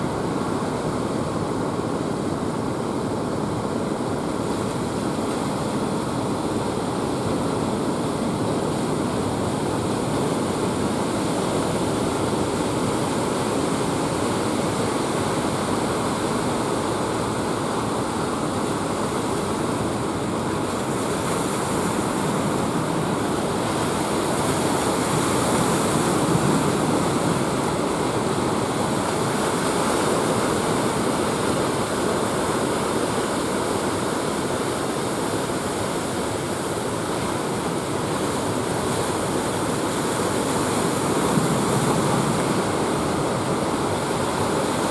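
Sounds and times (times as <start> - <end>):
surf breaking on a beach: 0.0 - 44.9.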